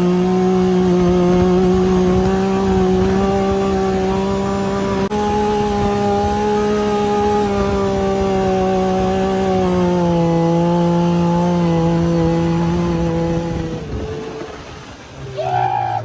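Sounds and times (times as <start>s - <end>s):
small engine running: 0.0s - 15.4s.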